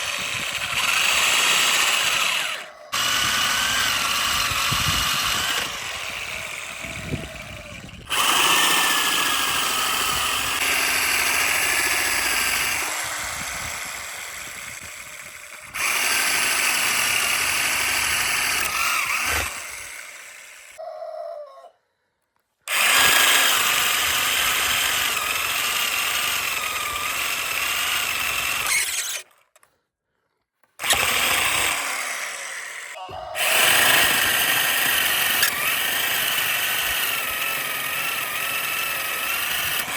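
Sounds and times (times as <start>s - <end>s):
woodworking machine whining: 0.0s - 20.8s, 22.7s - 29.4s, 30.8s - 39.9s.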